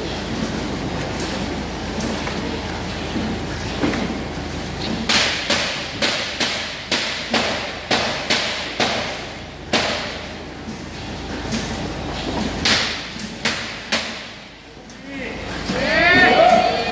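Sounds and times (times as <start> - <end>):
steady background hum: 0.0 - 16.9.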